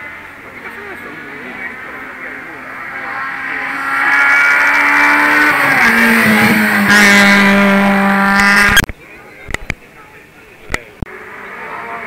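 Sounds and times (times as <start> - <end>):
race car engine at high revs: 0.0 - 8.9, 11.0 - 12.0.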